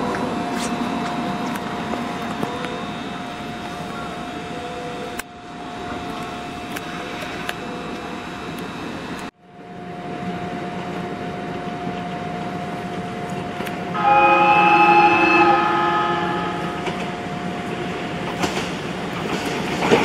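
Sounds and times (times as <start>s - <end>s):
railcar running hum and whine: 0.0s - 20.0s.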